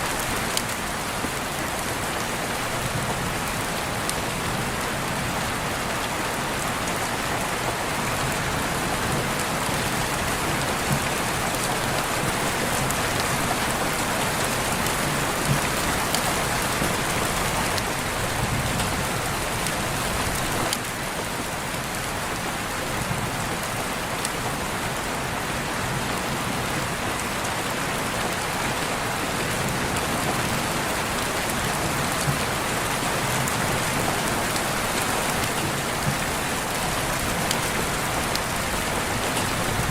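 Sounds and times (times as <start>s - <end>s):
rain falling hiss: 0.0s - 39.9s.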